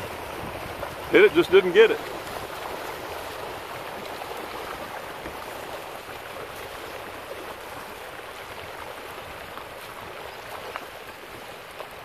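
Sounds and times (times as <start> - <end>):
fish splashing on water surface: 0.0 - 12.0.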